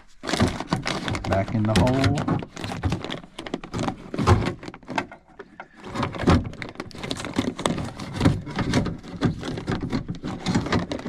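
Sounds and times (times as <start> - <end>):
door lock actuator knocking and scraping: 0.3 - 11.0.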